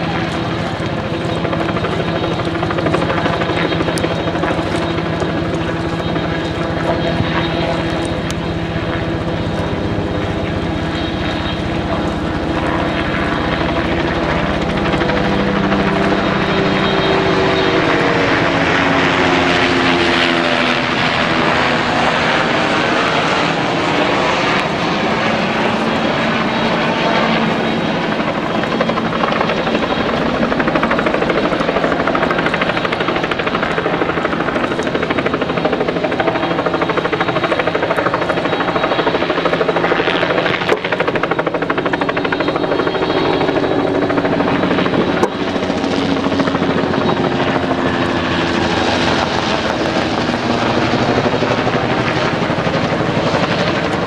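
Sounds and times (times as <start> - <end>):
engine drone with rapid beating: 0.0 - 54.0.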